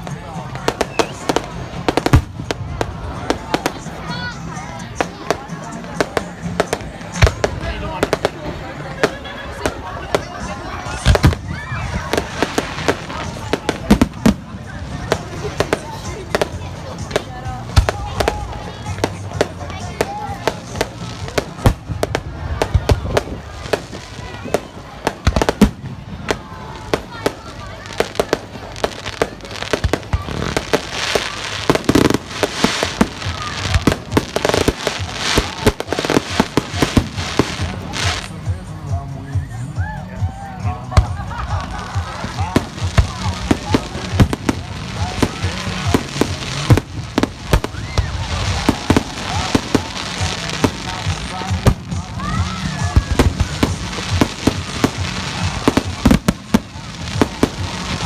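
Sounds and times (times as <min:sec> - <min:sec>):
fireworks crackling: 0:00.0 - 0:39.1, 0:40.3 - 0:58.0
fireworks bangs: 0:00.1 - 0:38.4, 0:41.0 - 0:58.0.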